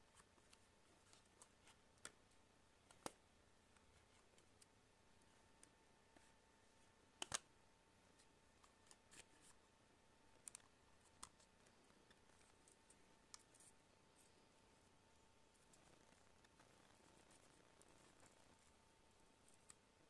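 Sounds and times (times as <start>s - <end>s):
faint high hum: 0.0s - 20.0s.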